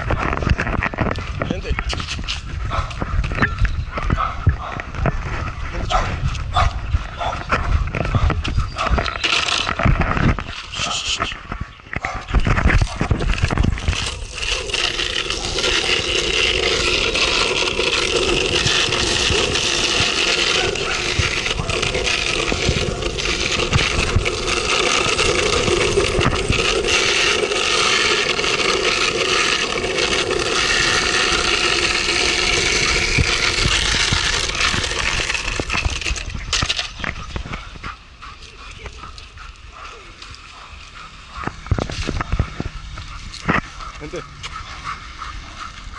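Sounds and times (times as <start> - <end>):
longboard wheels rolling on pavement: 0.0 - 45.9.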